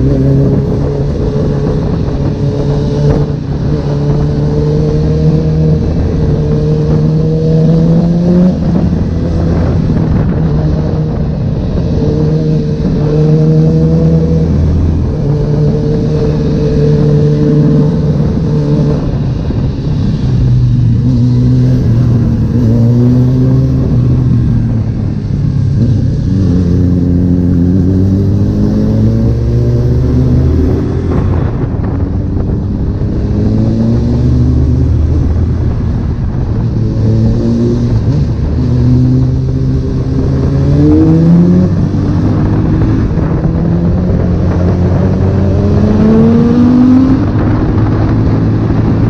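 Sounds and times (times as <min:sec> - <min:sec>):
motorcycle engine revving: 0:00.0 - 0:49.0
wind and road noise: 0:00.0 - 0:49.0.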